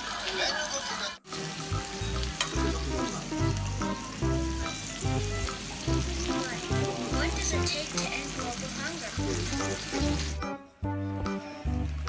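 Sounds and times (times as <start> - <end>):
food sizzling on grill pan: 0.0 - 10.5.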